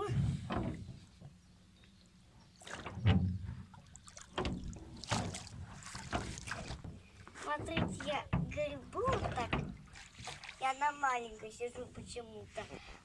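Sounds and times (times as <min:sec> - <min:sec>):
oars splashing in water: 0:02.4 - 0:12.9.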